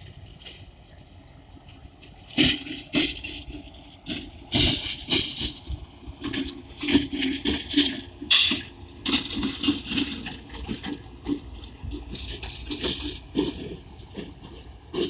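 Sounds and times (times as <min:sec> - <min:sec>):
train rumble: 0:00.0 - 0:15.0
metallic clanks and rattles: 0:01.7 - 0:15.0.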